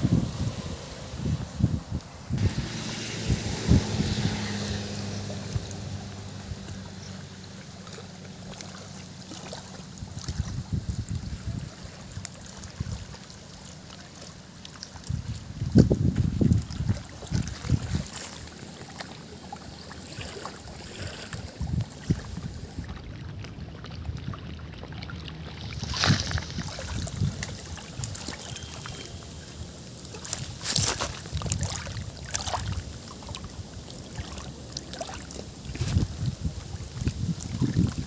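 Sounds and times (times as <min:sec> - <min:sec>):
wind rumbling on microphone: 0:00.0 - 0:13.6, 0:14.8 - 0:18.6, 0:19.7 - 0:38.0
waves lapping at rocky shore: 0:00.0 - 0:38.0.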